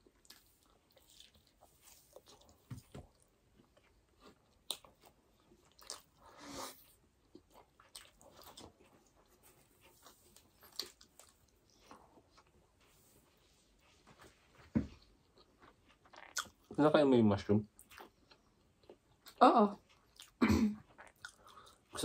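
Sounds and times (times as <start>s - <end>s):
chewing and mouth clicks: 0.0s - 13.1s, 15.0s - 16.8s, 17.7s - 22.0s.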